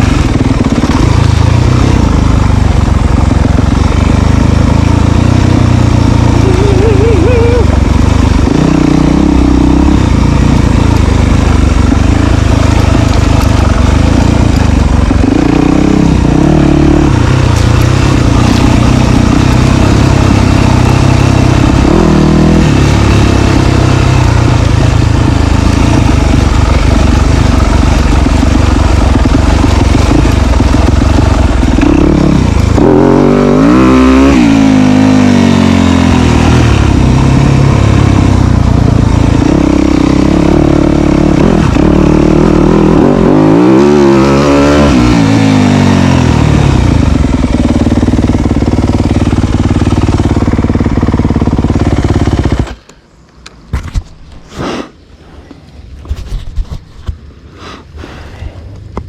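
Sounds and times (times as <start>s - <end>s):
dirt bike engine revving: 0.0s - 52.8s.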